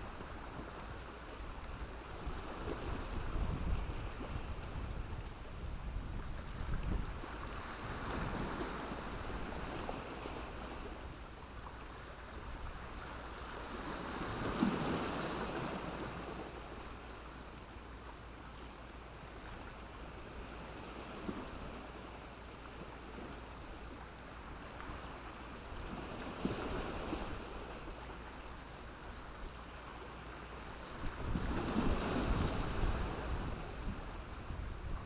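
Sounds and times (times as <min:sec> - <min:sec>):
wind rumble on microphone: 0:00.0 - 0:17.3, 0:22.7 - 0:35.0
waves breaking on shore: 0:00.0 - 0:35.0.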